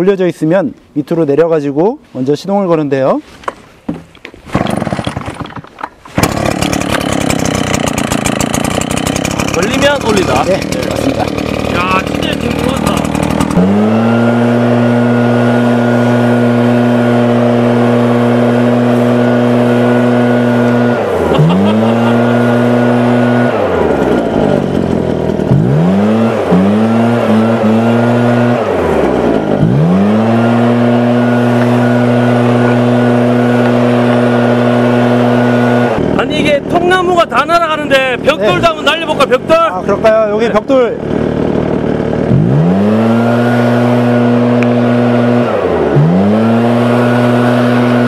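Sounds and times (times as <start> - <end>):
leaf blower engine revving: 4.4 - 48.0.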